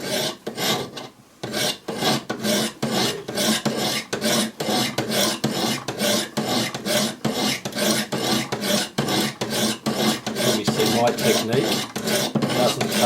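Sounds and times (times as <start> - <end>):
sharpening stone rasping on blade: 0.0 - 13.0.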